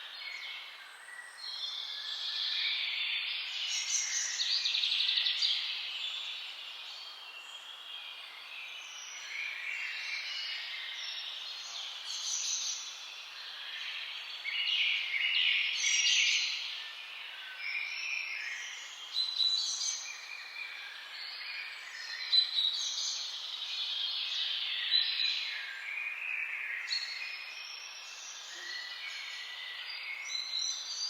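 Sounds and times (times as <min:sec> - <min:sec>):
birds singing and chirping: 0:00.0 - 0:31.0.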